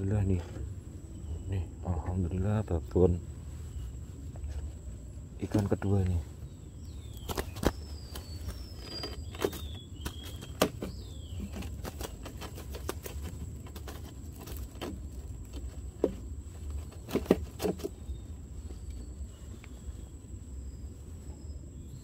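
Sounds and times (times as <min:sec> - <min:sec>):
bird chirps: 0:00.0 - 0:14.9, 0:15.6 - 0:22.0.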